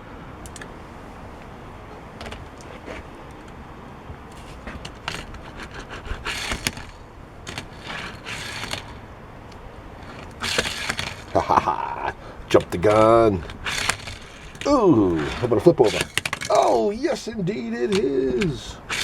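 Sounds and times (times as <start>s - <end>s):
light clicks: 0.3s - 16.8s
toy car wheels rolling and scraping: 0.4s - 19.0s.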